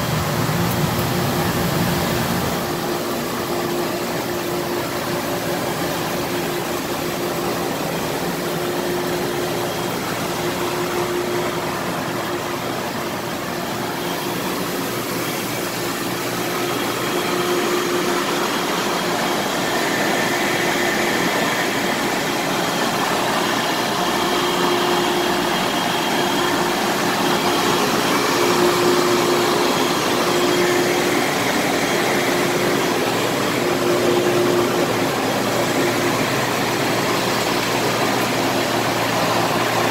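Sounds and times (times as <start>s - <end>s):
pump motors whirring: 0.0s - 39.9s.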